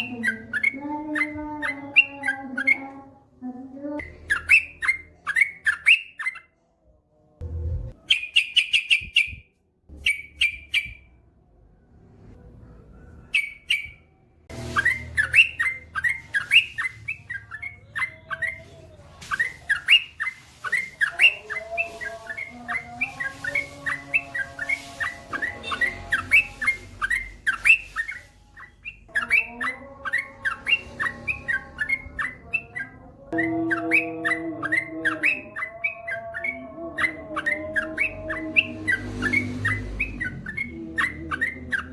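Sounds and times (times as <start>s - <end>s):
bird chirping rapidly: 0.0s - 3.0s, 4.0s - 6.5s, 7.9s - 11.2s, 13.2s - 41.9s.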